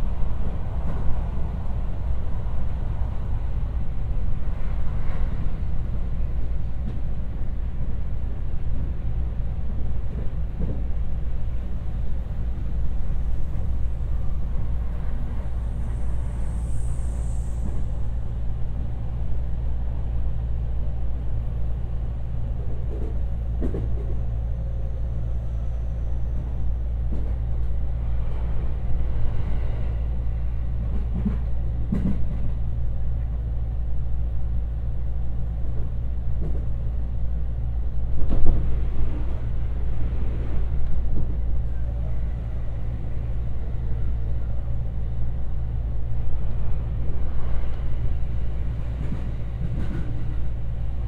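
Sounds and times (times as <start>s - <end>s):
low rumble of wheels on rail: 0.0s - 51.0s.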